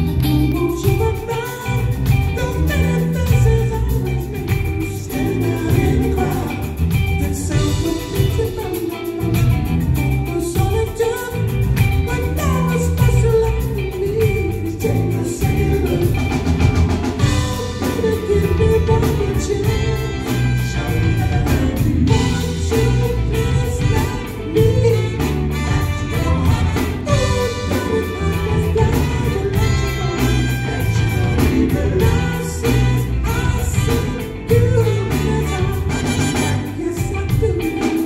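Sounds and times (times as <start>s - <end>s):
group of singers singing: 0.0s - 11.6s, 12.2s - 38.0s
live band playing: 0.0s - 38.0s.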